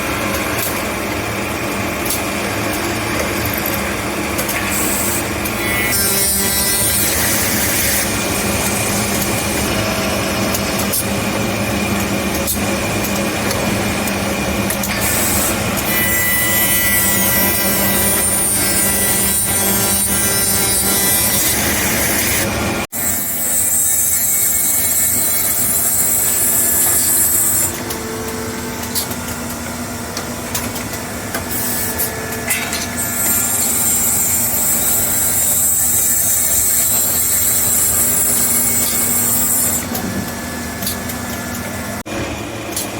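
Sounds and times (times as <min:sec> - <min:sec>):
machine cutting and sawing: 0:00.0 - 0:41.4.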